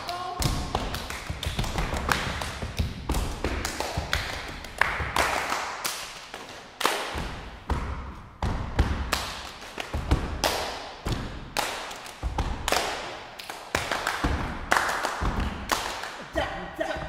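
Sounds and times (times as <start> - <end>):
hand claps: 0.0 - 7.5, 8.8 - 16.3.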